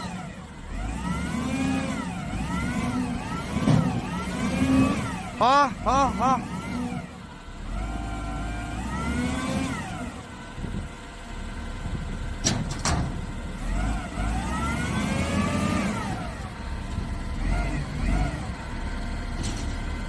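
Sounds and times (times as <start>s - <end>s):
heavy machine engine revving: 0.0s - 20.0s.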